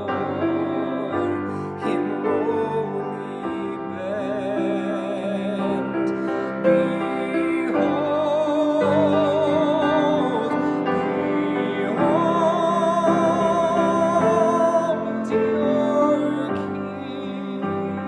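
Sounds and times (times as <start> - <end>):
classical solo voice singing: 0.0 - 18.0
piano accompaniment: 0.0 - 18.0.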